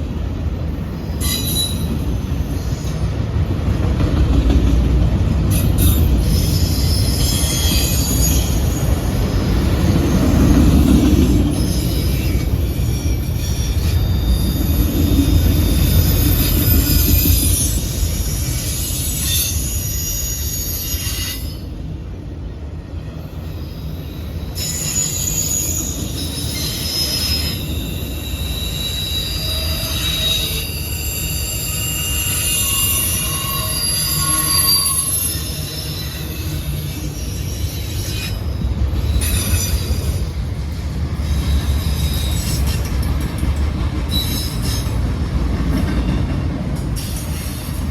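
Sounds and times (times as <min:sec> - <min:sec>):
freight train rumbling past: 0:00.0 - 0:47.9
train wheel squeals: 0:00.8 - 0:03.5, 0:04.4 - 0:22.0, 0:23.0 - 0:47.9.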